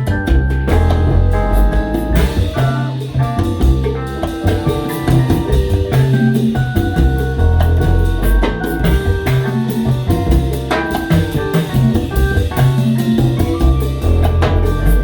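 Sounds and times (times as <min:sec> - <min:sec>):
salsa band playing: 0:00.0 - 0:15.0.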